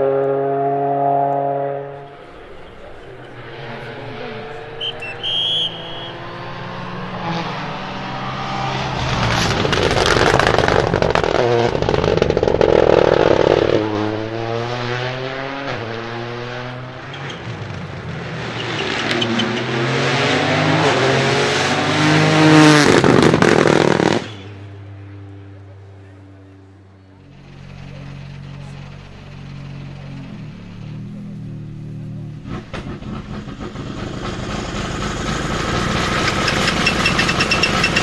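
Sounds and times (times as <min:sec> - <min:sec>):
rally car engine shifting up: 0:00.0 - 0:24.8, 0:27.2 - 0:38.0.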